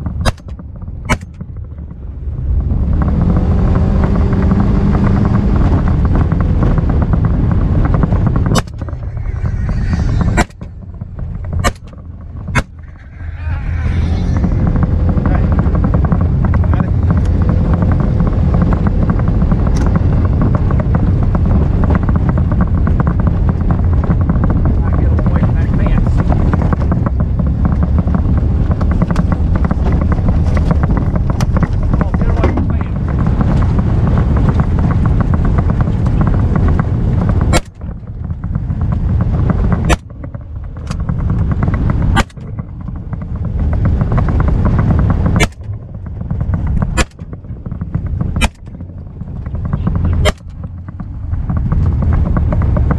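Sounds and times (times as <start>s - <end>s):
vehicle engine and road noise: 0.0s - 52.9s
sharp crack at gear change: 0.2s - 1.6s, 4.4s - 20.6s, 21.3s - 52.9s.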